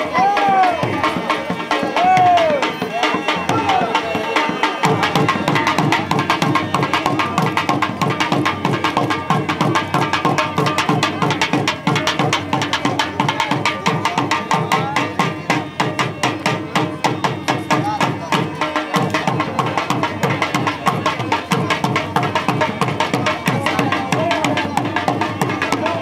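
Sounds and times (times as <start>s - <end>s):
dhol drum: 0.0s - 26.0s.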